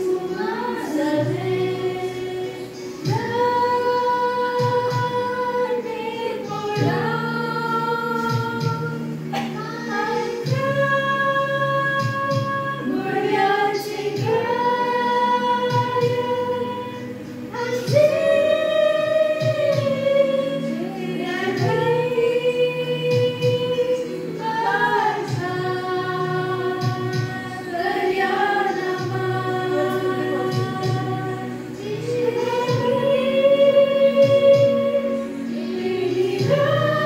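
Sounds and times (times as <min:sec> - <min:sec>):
karaoke backing track: 0:00.0 - 0:37.0
women singing a carol together: 0:00.0 - 0:37.0.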